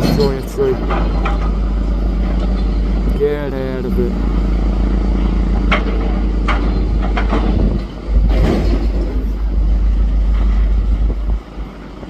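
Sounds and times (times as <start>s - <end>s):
demolition machine rumbling: 0.0s - 12.0s.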